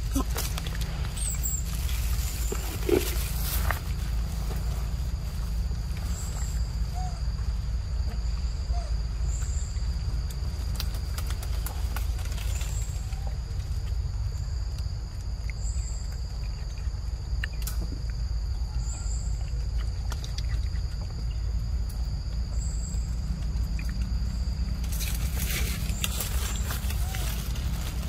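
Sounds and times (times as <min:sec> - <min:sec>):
insects droning: 0:00.0 - 0:28.0
low rumble: 0:00.0 - 0:28.0.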